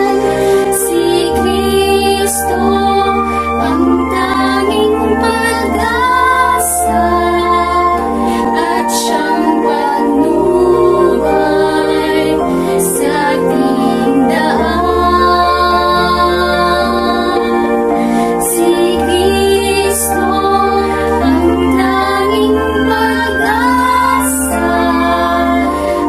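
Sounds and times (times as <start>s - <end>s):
backing music with bass: 0.0s - 26.0s
girls singing together: 0.0s - 26.0s.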